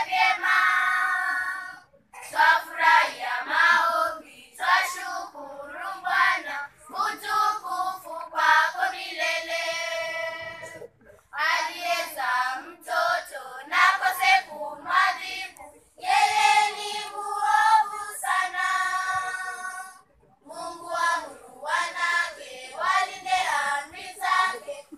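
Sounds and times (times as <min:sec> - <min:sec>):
children's choir singing: 0:00.0 - 0:24.9.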